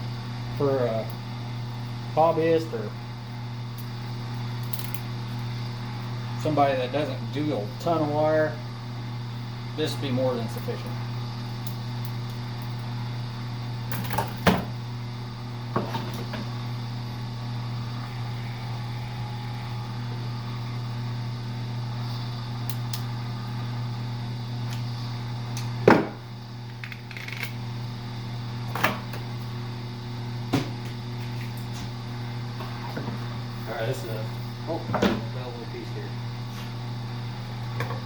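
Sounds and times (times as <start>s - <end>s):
machine motor humming: 0.0s - 36.3s.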